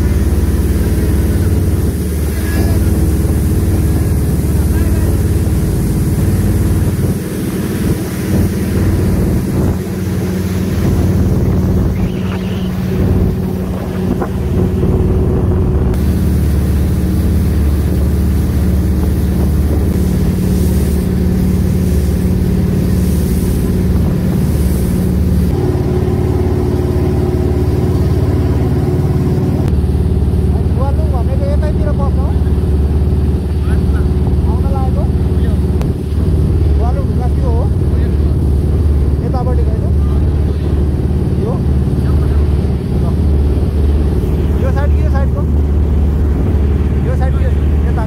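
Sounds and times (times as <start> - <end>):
boat engine running: 0.0 - 48.0
rushing water and wind: 0.0 - 48.0.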